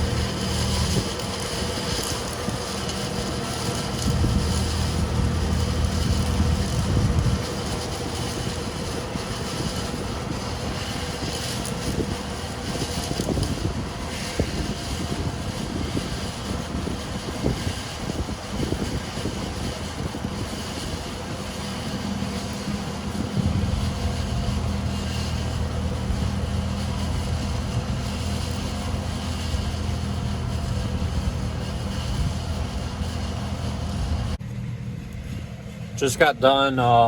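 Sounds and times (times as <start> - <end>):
diesel machinery rumbling: 0.0 - 37.0.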